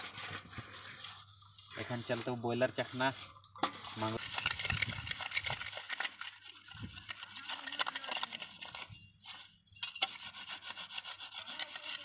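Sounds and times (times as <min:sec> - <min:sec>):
knife scraping on concrete: 0:00.0 - 0:12.0.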